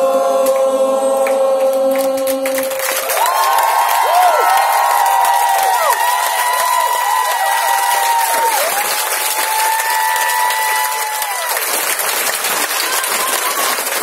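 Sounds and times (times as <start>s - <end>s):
crowd applauding: 2.0s - 14.0s.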